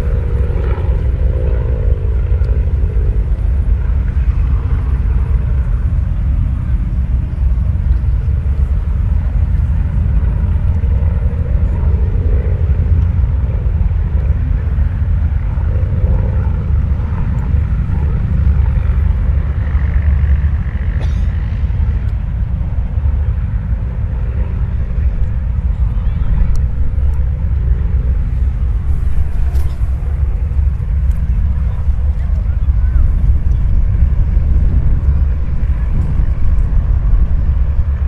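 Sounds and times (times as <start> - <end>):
biplane radial engine drone: 0.0 - 38.0.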